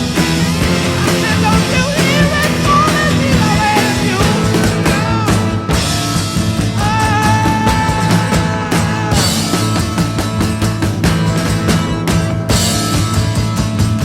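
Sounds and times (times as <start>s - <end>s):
bending lead guitar line: 0.0s - 14.0s
rock music: 0.0s - 14.0s.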